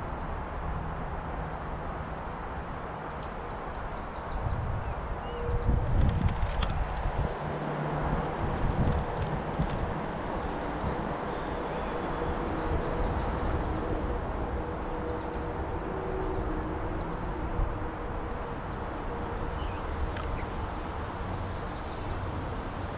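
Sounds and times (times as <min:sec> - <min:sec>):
rushing outdoor background noise: 0:00.0 - 0:22.9.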